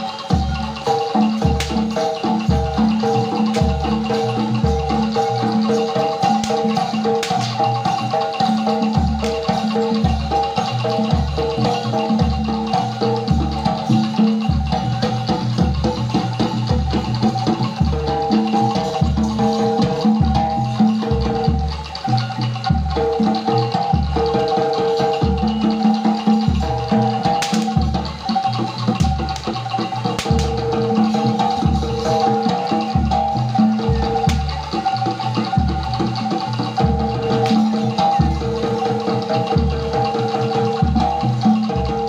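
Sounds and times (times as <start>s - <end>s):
metallophones ringing melody: 0.0s - 42.0s
small percussion: 0.0s - 42.0s.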